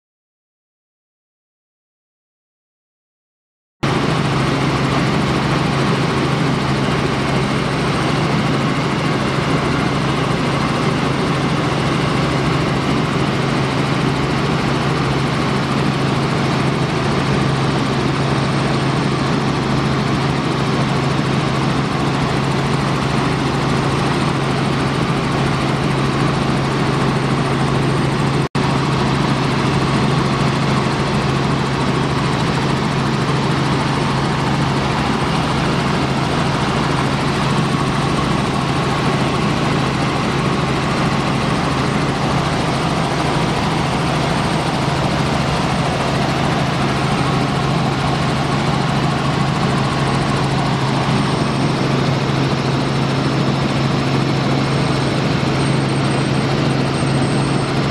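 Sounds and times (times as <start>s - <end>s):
helicopter engine and rotor drone: 3.8s - 57.9s.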